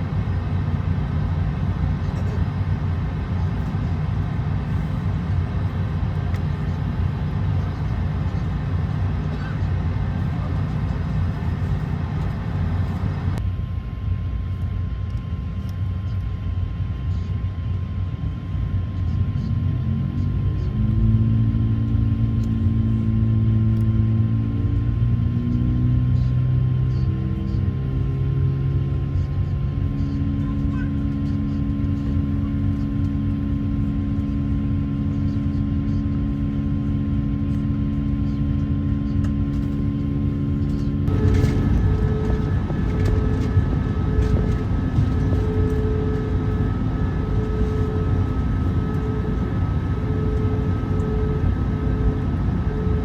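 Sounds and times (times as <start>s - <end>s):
jet engines heard from cabin: 0.0s - 53.0s.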